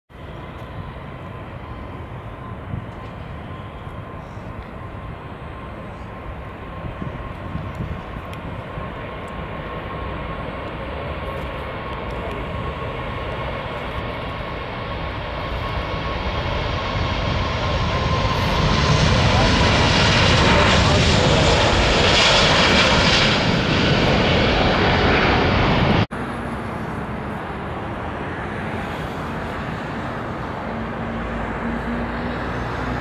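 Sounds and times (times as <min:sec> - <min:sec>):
jet engines at takeoff power: 0:00.1 - 0:33.0.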